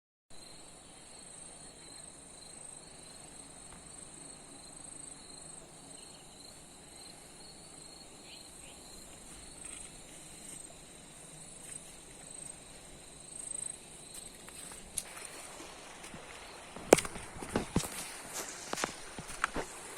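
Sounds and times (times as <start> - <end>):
crickets trilling: 0.4 - 19.9.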